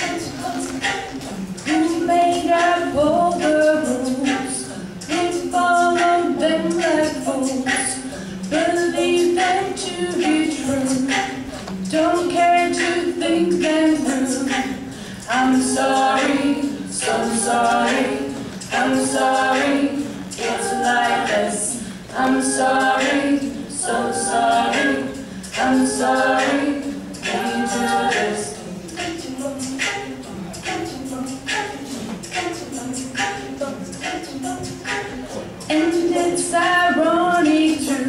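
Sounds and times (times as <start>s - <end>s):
women singing a cappella: 0.0s - 38.0s.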